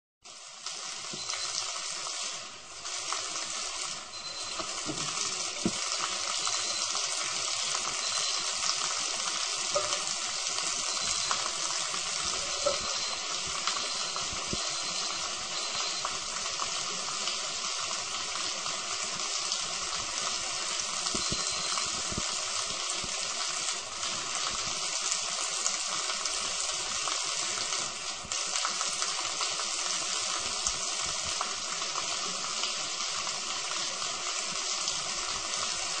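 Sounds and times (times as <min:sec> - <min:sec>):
water pouring down: 0:00.3 - 0:36.0.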